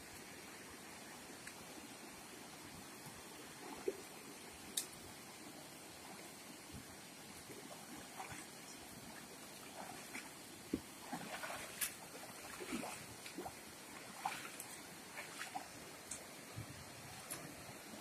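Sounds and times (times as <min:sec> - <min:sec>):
shallow river flowing over stones: 0:00.0 - 0:18.0
animal wading through water: 0:03.3 - 0:18.0.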